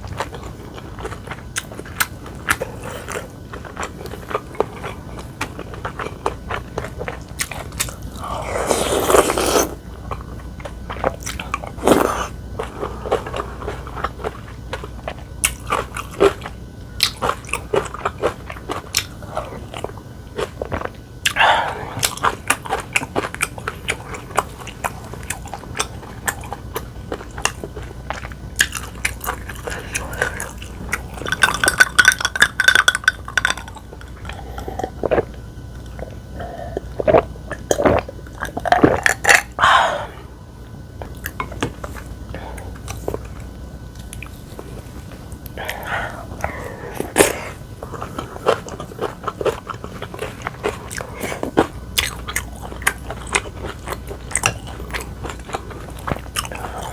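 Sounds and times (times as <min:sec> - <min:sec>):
chewing with wet mouth clicks: 0:00.0 - 0:39.6, 0:41.0 - 0:56.9.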